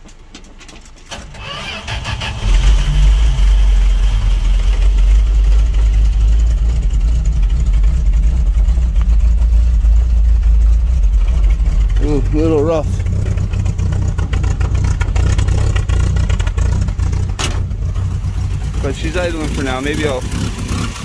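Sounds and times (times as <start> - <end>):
pickup truck engine starting: 1.1 - 21.0.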